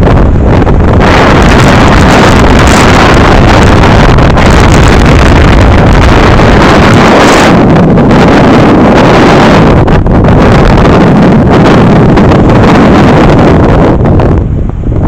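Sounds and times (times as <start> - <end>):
moving vehicle noise: 0.0 - 15.0
wind rushing over microphone: 0.0 - 15.0.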